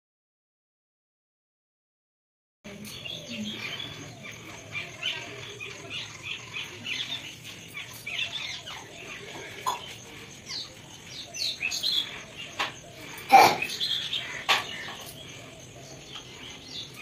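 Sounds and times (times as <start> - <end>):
birds chirping: 2.7 - 17.0.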